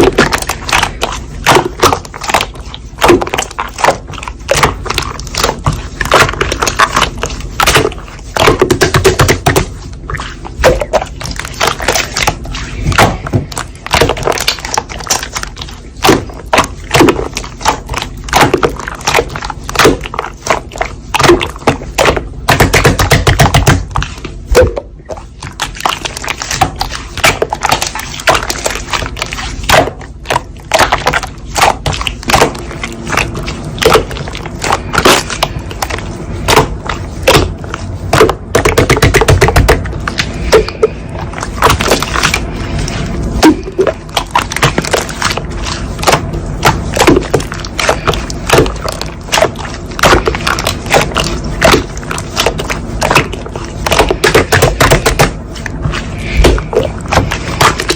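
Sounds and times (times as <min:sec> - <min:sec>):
slime squelching by hand: 0:00.0 - 0:57.9.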